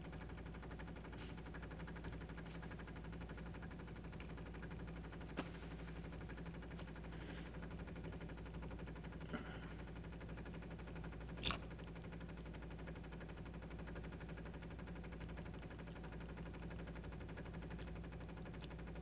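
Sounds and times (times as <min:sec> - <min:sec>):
espresso machine pump humming: 0:00.0 - 0:19.0.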